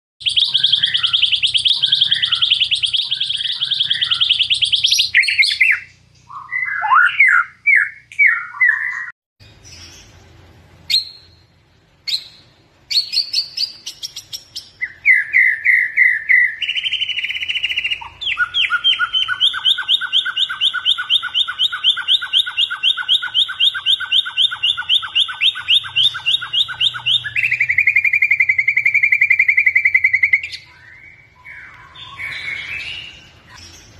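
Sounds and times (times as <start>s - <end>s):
bird singing trills and whistles: 0.2s - 10.2s, 10.8s - 33.9s.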